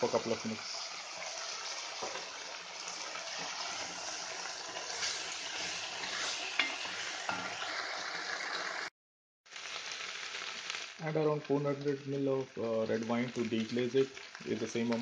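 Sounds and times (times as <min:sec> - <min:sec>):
vegetables sizzling in a pot: 0:00.0 - 0:08.9, 0:09.5 - 0:15.0.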